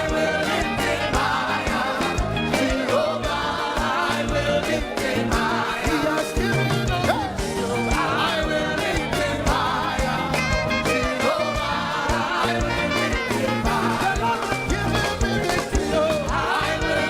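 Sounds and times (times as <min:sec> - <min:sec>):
band with steady drum beat: 0:00.0 - 0:17.0
gospel singing voices: 0:00.0 - 0:17.0.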